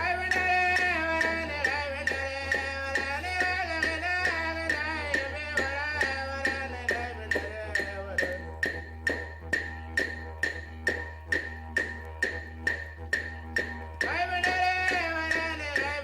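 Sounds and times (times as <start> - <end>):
low steady drone: 0.0 - 16.0
steady tapping beat: 0.0 - 16.0.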